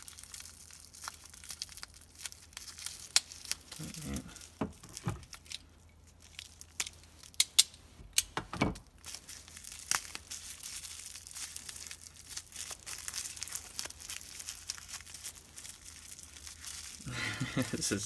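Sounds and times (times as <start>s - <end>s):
sharp crackles: 0.0s - 7.6s, 9.0s - 17.1s
bubble wrap crinkling: 0.0s - 8.2s, 8.8s - 18.0s.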